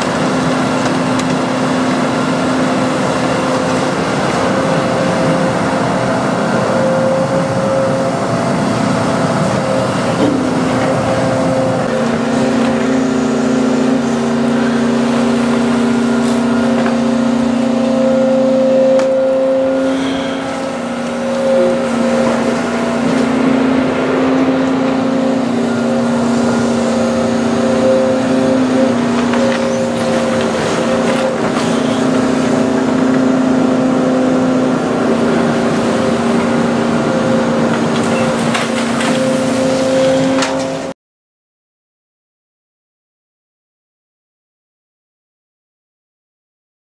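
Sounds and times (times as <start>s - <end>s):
diesel engine running: 0.0s - 40.9s
hydraulic whine: 0.0s - 41.0s.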